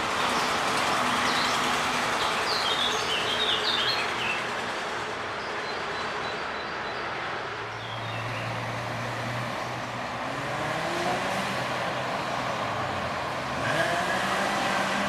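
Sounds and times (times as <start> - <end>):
passing vehicle hum: 0.0 - 15.0.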